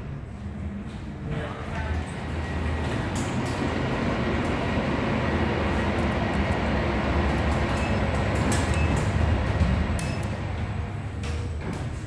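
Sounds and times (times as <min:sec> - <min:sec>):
elevator hum and rumble: 0:00.0 - 0:12.0.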